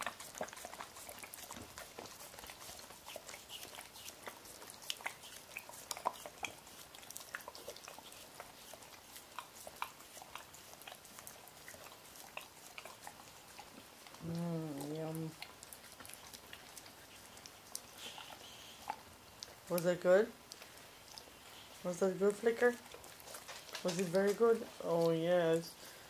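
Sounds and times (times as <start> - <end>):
puppy licking and lapping: 0.0 - 26.0.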